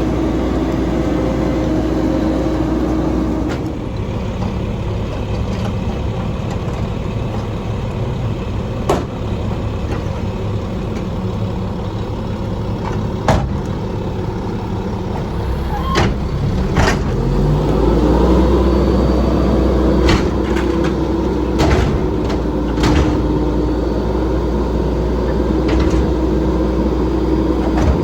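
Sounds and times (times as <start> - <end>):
straight-piped diesel engine running: 0.0 - 28.0.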